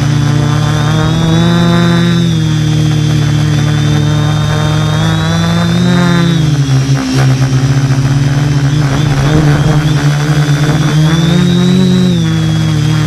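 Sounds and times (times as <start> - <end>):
model aircraft motor buzzing: 0.0 - 13.0.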